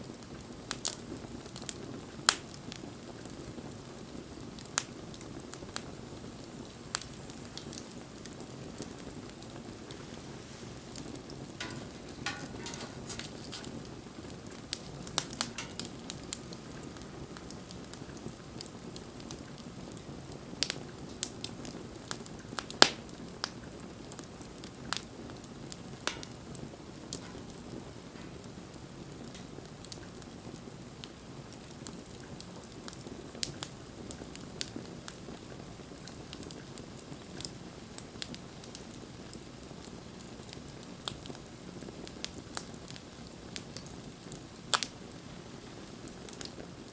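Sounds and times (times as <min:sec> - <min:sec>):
wood crackling and popping: 0:00.0 - 0:46.9
wood fire burning: 0:00.0 - 0:46.9.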